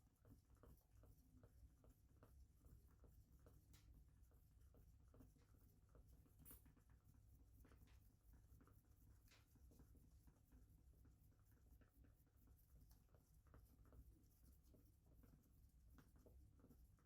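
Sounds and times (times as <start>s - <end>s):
small ticks: 0.0s - 17.0s
faint scratching: 0.1s - 17.0s.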